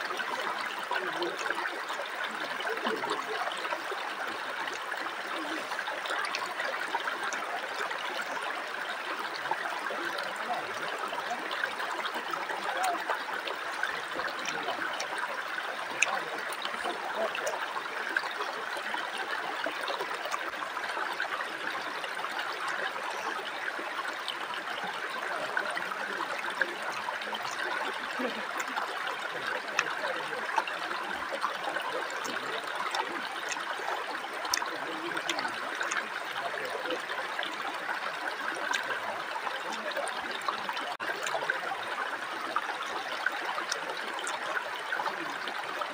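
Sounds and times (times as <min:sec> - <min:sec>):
river water rushing over rocks: 0:00.0 - 0:45.9.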